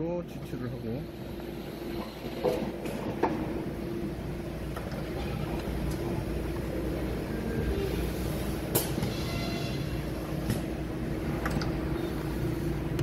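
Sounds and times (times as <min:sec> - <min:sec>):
machine mechanical hum: 0:00.0 - 0:13.0.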